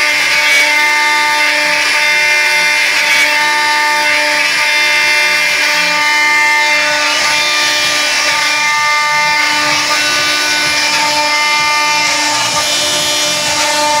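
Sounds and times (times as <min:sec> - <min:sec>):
stepper motors: 0:00.0 - 0:14.0
wood router spindle whine: 0:00.0 - 0:14.0.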